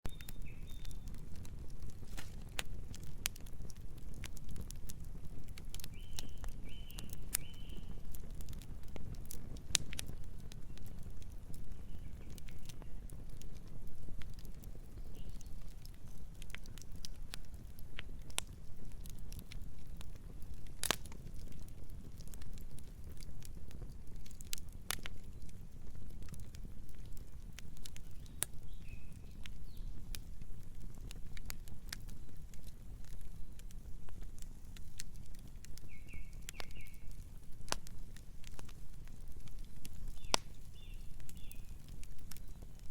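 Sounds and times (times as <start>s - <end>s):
campfire crackling: 0.1s - 42.9s.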